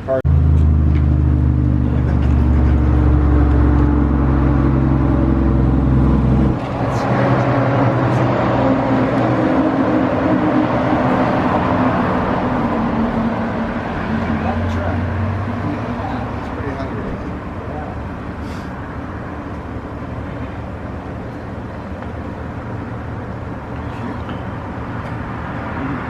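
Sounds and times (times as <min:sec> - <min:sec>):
broad rushing noise: 0:00.0 - 0:26.0
car engine humming: 0:00.0 - 0:26.0.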